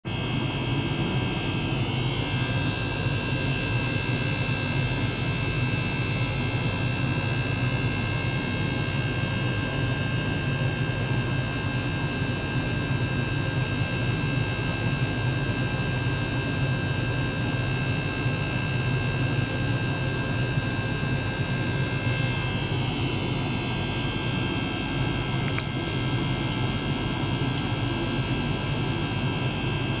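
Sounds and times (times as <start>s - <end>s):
electric water pump humming: 0.1s - 30.0s.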